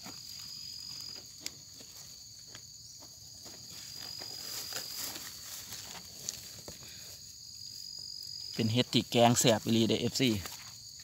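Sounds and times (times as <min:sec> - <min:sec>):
dry grass ticks and rustles: 0:00.0 - 0:11.0
insects trilling: 0:00.0 - 0:11.0.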